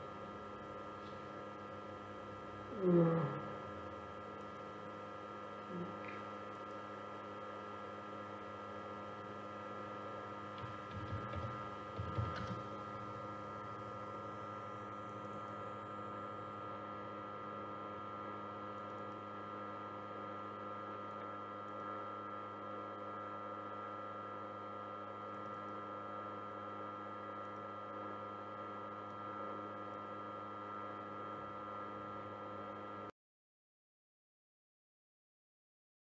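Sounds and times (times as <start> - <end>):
steady electrical hum: 0.0 - 33.1.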